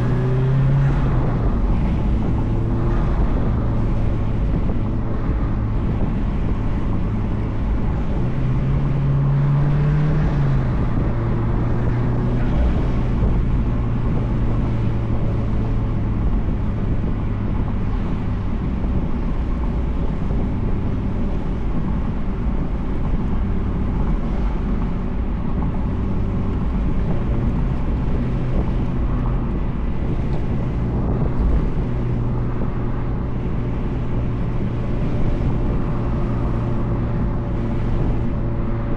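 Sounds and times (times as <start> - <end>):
car engine and exhaust running: 0.0 - 38.9
road noise: 0.0 - 38.9
wind noise: 0.0 - 38.9.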